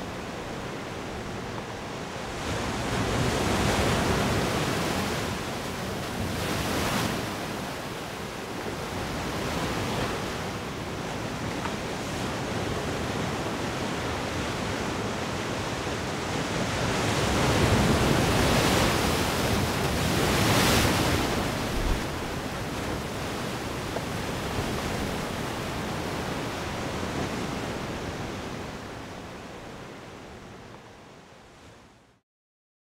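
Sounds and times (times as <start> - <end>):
ocean waves rushing: 0.0 - 30.5.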